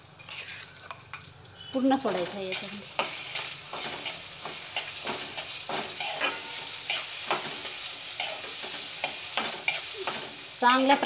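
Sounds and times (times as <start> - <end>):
paste sizzling in hot oil: 0.0 - 11.0
metal spatula scraping pan: 0.2 - 1.0, 1.7 - 11.0.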